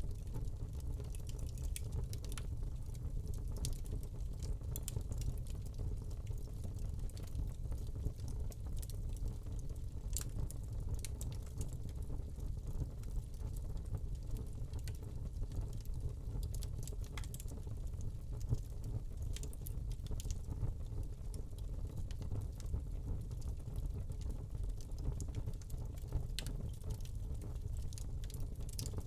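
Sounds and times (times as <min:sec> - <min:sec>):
fire crackles and pops: 0:00.0 - 0:29.0.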